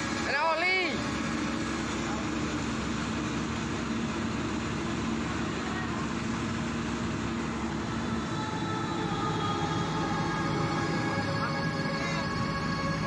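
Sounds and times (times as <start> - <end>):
heavy machinery rumbling: 0.0 - 13.0
high steady machine tones: 0.0 - 13.0.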